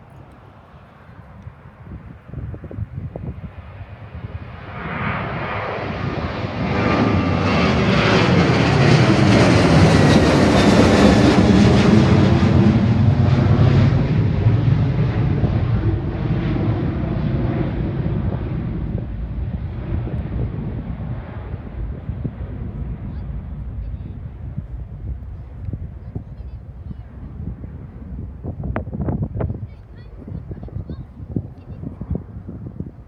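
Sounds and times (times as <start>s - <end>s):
jet airliner engines roaring: 0.0s - 33.0s.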